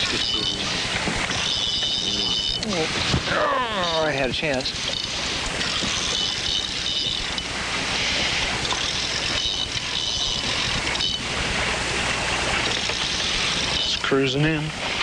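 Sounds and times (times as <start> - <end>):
low steady hum: 0.0 - 15.0
water rushing: 0.0 - 15.0.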